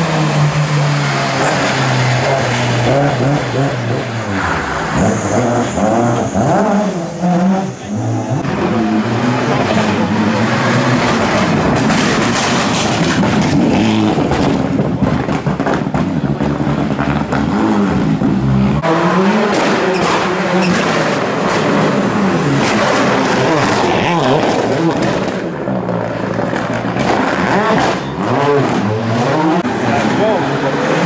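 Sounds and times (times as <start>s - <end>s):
rally car engines revving hard: 0.0s - 31.0s.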